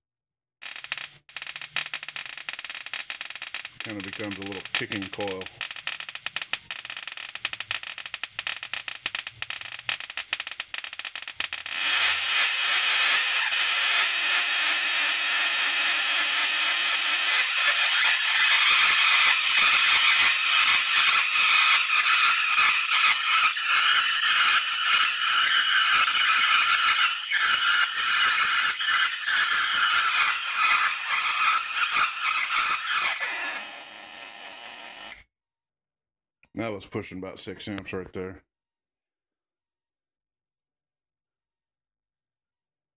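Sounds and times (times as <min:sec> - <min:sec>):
tesla coil spark crackling: 0:00.6 - 0:35.2.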